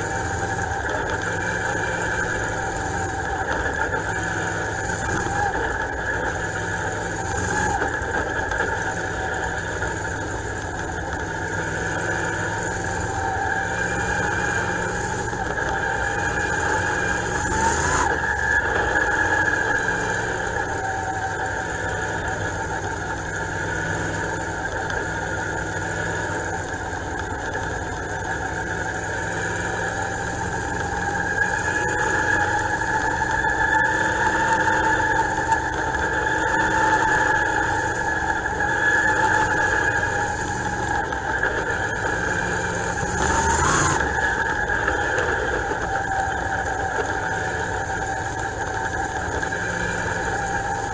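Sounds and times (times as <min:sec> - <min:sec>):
race car engine: 0:00.0 - 0:50.9.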